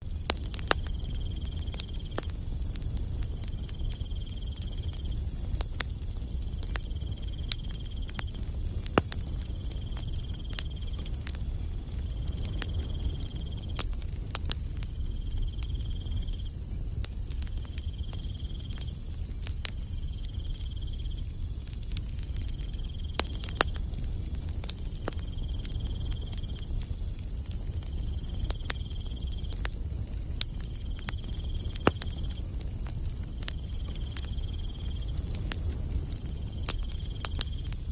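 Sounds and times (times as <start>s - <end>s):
campfire crackling and popping: 0.0s - 37.9s
cricket chirping: 0.2s - 37.9s.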